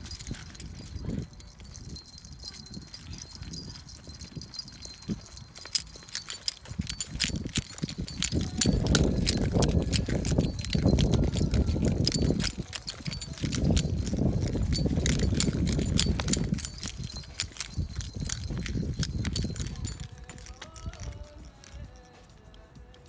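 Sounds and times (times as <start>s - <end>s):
footsteps on gritty path: 0.0s - 23.0s.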